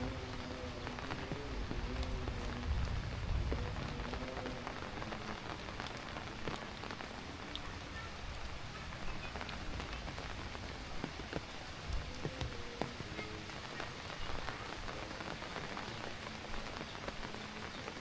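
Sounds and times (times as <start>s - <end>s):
heavy rain: 0.0s - 18.0s
raindrops tapping close by: 0.0s - 18.0s.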